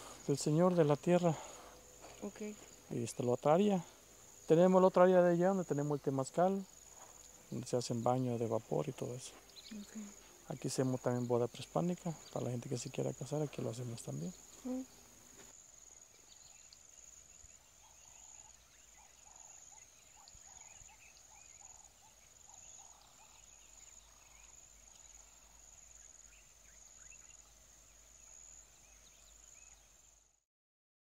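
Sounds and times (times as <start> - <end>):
soft chirping calls: 0.0 - 15.0, 16.0 - 30.0
high-pitched insect trill: 0.0 - 30.3.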